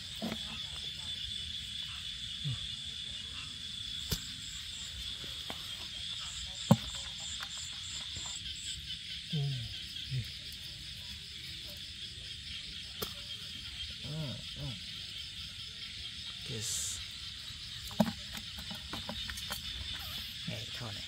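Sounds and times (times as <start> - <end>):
insect pulsing trill: 0.0 - 21.0
night insects buzzing: 0.0 - 21.0.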